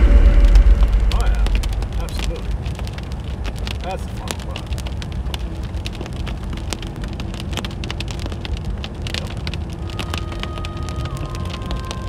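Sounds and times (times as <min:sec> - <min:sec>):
vehicle driving rumble: 0:00.0 - 0:12.0
rain tapping on a car: 0:01.1 - 0:12.0.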